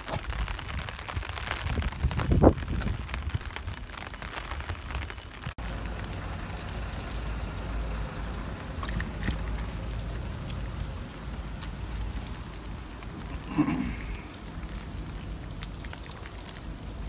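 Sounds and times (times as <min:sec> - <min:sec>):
steady rain hiss: 0:00.0 - 0:17.0
wind rumbling on microphone: 0:00.0 - 0:17.0.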